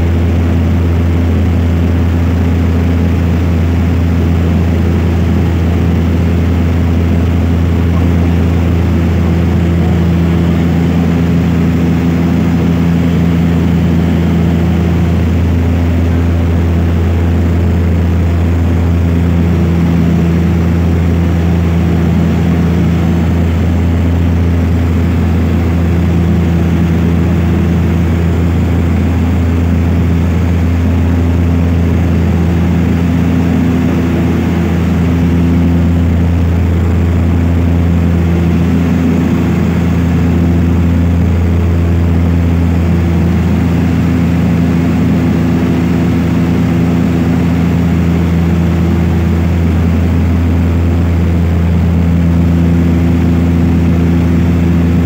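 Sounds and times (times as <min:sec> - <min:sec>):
propeller airplane cabin drone: 0:00.0 - 0:55.0.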